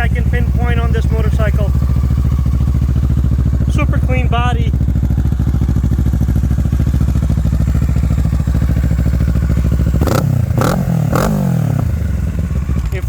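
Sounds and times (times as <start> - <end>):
exhaust cracks: 0.0 - 13.0
motorcycle engine idling: 0.0 - 13.0.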